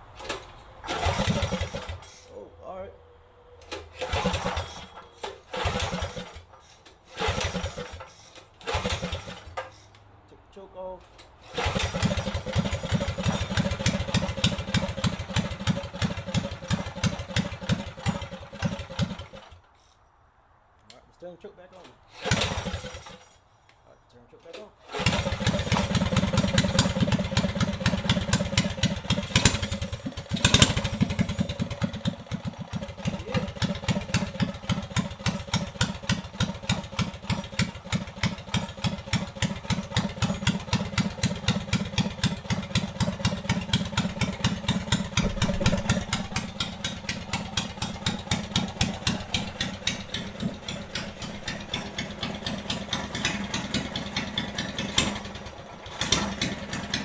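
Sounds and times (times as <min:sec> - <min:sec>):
sharp engine cracks: 0:00.0 - 0:02.4, 0:03.6 - 0:10.0, 0:11.0 - 0:19.6, 0:21.8 - 0:23.4, 0:24.4 - 0:57.0
single-cylinder engine idling: 0:00.0 - 0:02.5, 0:03.3 - 0:09.9, 0:11.4 - 0:19.6, 0:22.1 - 0:23.4, 0:24.8 - 0:57.0.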